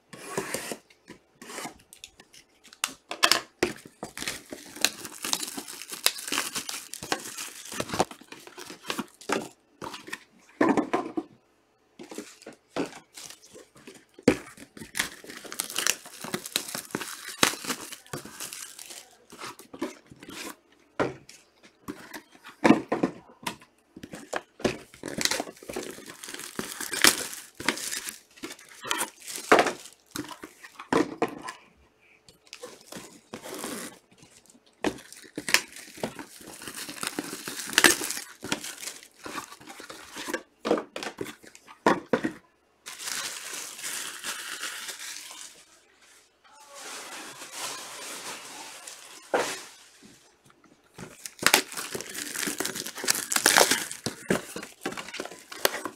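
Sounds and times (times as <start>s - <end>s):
plastic wrappers crinkling and ripping: 1.8s - 10.2s, 12.1s - 20.6s, 24.0s - 30.9s, 32.3s - 41.8s, 42.8s - 55.9s.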